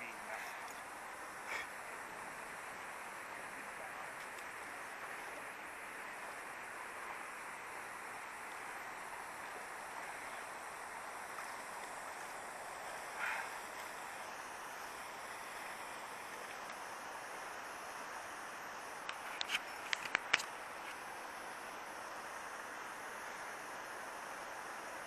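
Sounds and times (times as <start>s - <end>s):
river water rushing over weir: 0.0s - 25.0s.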